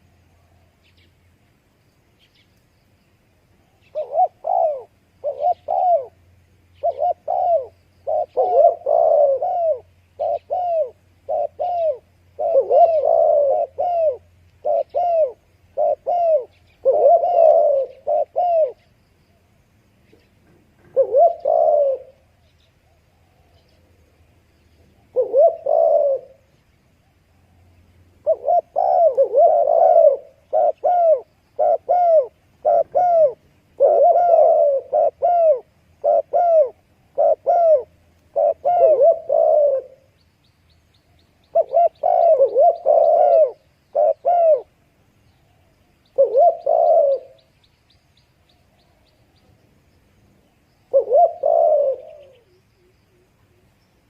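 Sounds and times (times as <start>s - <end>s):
dove cooing: 3.7s - 19.0s, 20.1s - 24.2s, 24.8s - 40.2s, 41.4s - 47.5s, 50.8s - 53.8s.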